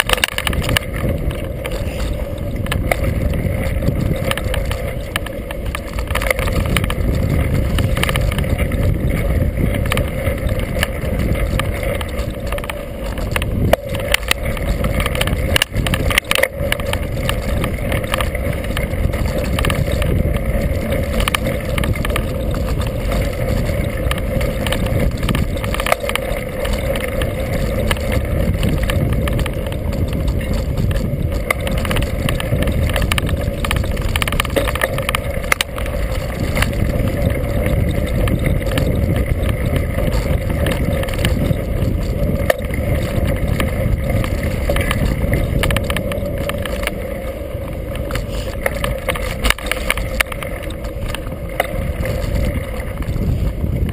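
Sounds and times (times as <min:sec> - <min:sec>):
bike tires rumbling on dirt: 0:00.0 - 0:53.9.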